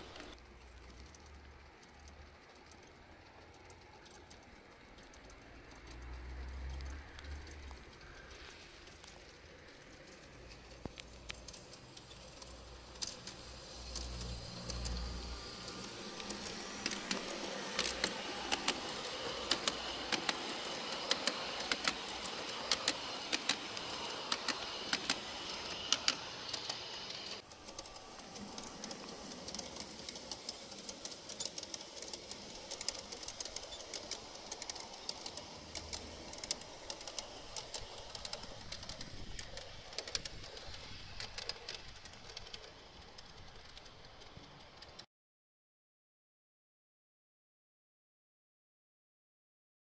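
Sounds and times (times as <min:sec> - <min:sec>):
model train wheels clicking: 0:00.0 - 0:45.1.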